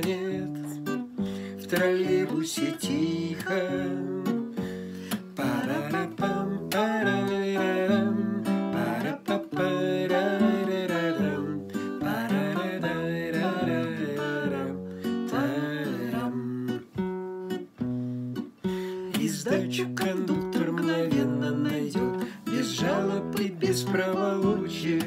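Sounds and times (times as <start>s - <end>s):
woman and man singing: 0.0s - 17.0s, 19.0s - 25.0s
strummed acoustic guitar: 0.0s - 25.0s.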